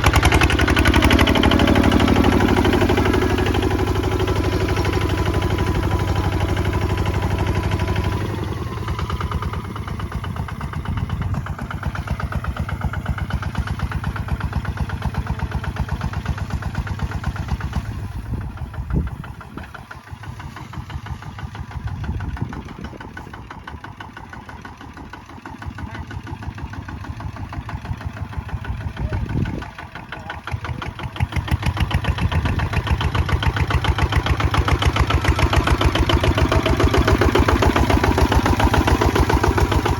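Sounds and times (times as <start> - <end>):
single-cylinder diesel engine chugging: 0.0 - 39.9.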